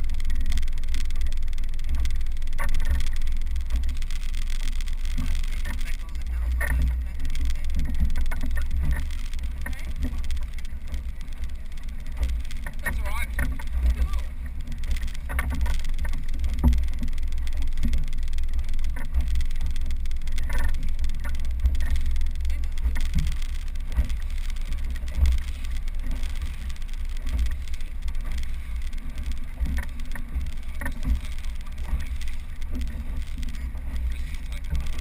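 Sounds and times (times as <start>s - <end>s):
inflatable boat motor rumble: 0.0s - 35.0s
water splashing against hull: 0.0s - 35.0s.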